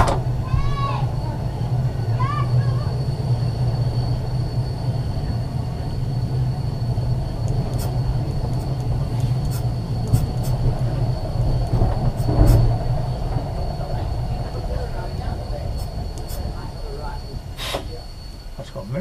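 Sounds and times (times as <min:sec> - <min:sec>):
tram rumbling on track: 0:00.0 - 0:19.0.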